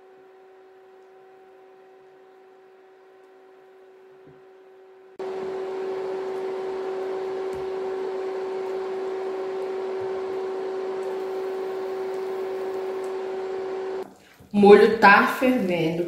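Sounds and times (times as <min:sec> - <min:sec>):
cooktop electrical hum: 0:00.0 - 0:16.0.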